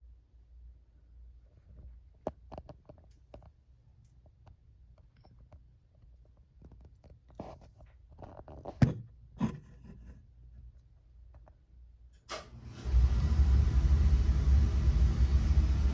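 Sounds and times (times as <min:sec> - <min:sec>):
faint low hum: 0:00.0 - 0:15.9.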